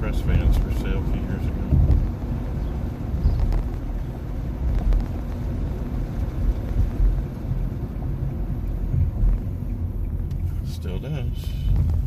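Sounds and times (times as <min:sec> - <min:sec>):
road and tyre rumble in car cabin: 0:00.0 - 0:12.0.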